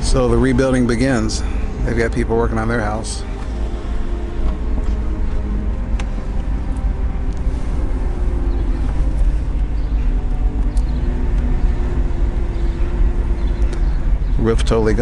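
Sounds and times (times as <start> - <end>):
car road and engine rumble: 0.0 - 15.0
faint engine hum: 0.0 - 15.0.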